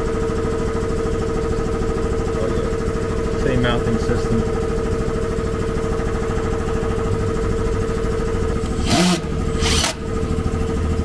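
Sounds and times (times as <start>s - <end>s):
machinery drone: 2.2s - 11.0s.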